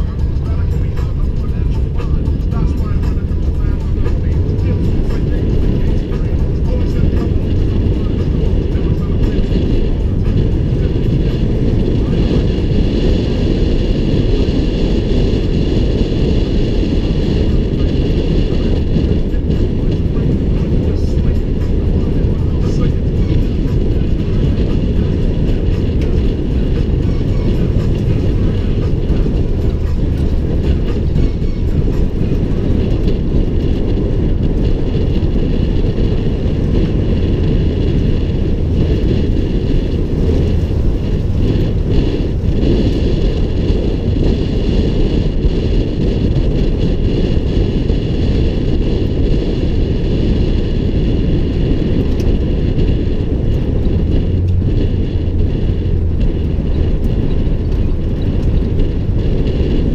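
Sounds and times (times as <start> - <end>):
truck driving on gravel: 0.0 - 59.9
wind on microphone: 0.0 - 59.9.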